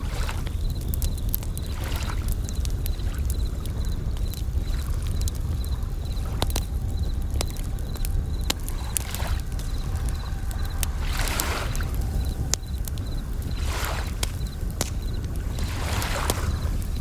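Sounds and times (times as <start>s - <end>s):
campfire crackling and popping: 0.0s - 17.0s
crickets chirping in trills: 0.0s - 17.0s
waves rushing: 0.0s - 17.0s.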